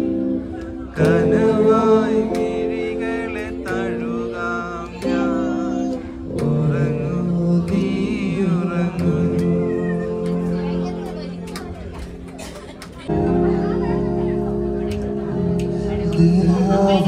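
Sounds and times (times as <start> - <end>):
person singing: 0.0 - 11.5, 13.1 - 17.0
guitar: 0.0 - 17.0.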